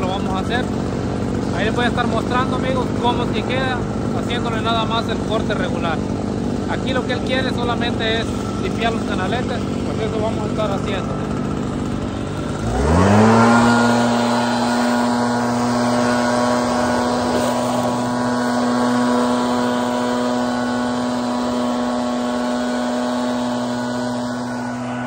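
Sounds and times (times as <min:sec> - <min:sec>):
leaf blower revving and running: 0:00.0 - 0:25.0.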